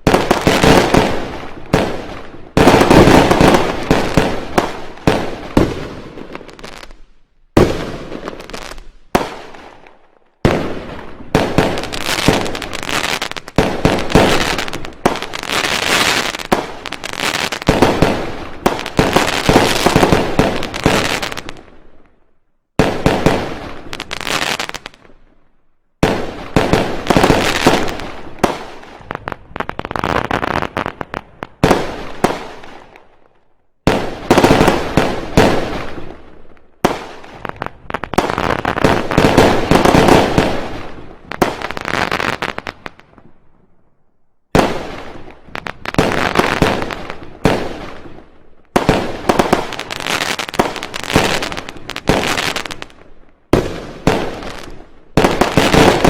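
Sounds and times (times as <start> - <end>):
fireworks bangs and crackling: 0.0 - 43.9, 44.5 - 56.0.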